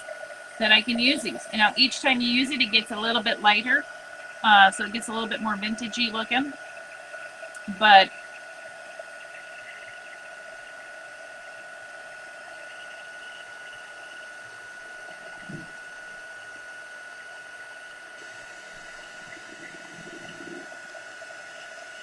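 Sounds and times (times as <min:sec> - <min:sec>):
heat gun fan rush and whine: 0:00.0 - 0:22.0.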